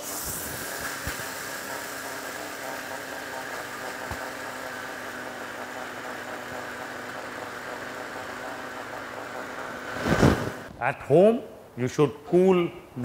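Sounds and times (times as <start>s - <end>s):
mixer grinder grinding seeds: 0.0s - 10.7s.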